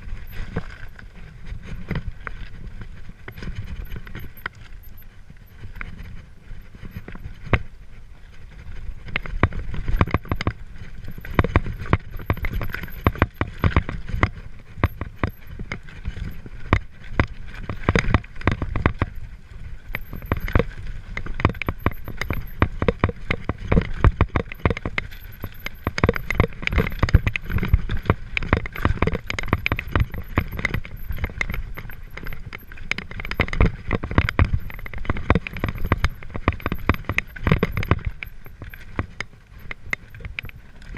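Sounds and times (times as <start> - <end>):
bike rattling over rocks: 0.0 - 40.9.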